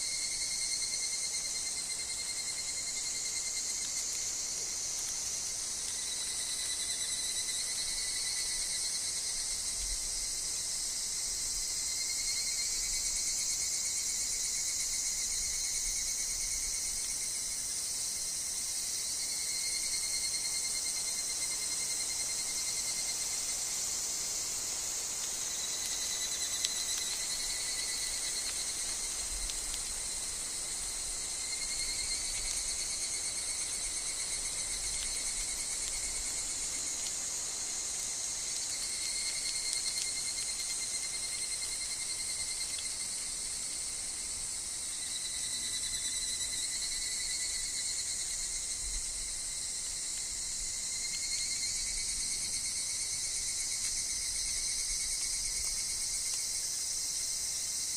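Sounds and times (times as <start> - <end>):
cicadas whistling: 0.0 - 57.9
forest insects chorus: 0.0 - 57.9.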